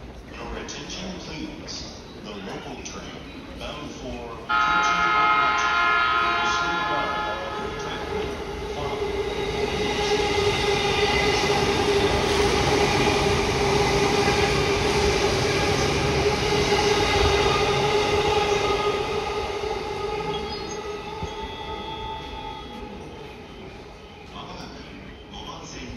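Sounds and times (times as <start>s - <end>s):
train wheels rumbling on rail: 3.6s - 25.9s.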